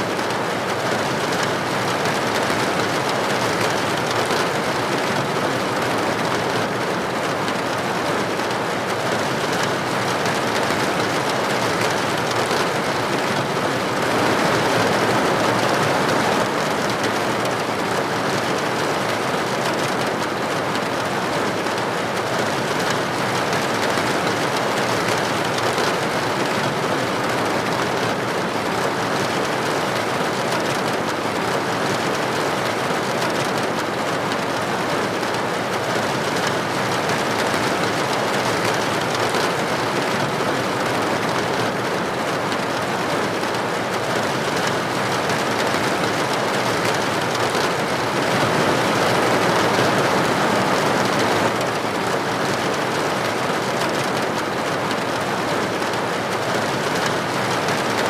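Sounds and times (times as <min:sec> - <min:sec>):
rain pattering on window: 0:00.0 - 0:58.0.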